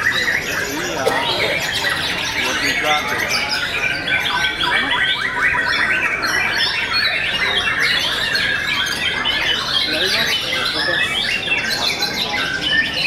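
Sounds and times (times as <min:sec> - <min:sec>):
caged songbirds singing: 0:00.0 - 0:13.0.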